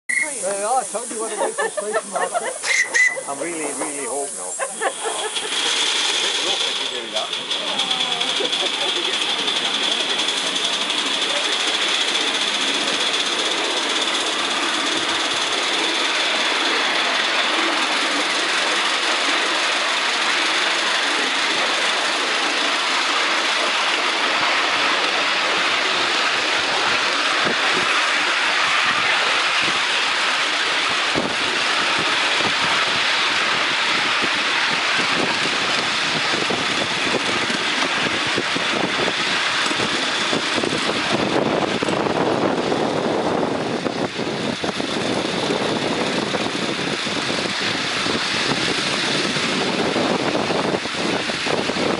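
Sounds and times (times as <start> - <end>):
miniature steam train running: 0.1 - 51.9.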